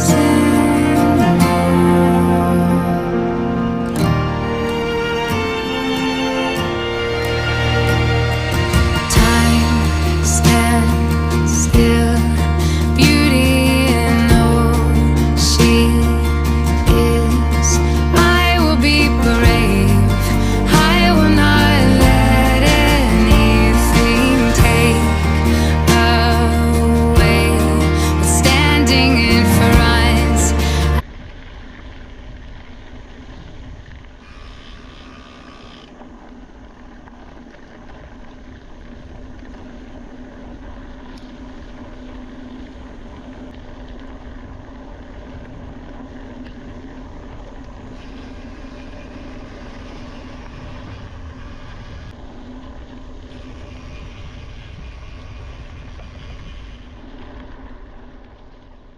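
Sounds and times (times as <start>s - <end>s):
bike tyre rumble: 0.0s - 58.9s
steady low hum: 0.0s - 58.9s
wind on microphone: 6.7s - 58.9s.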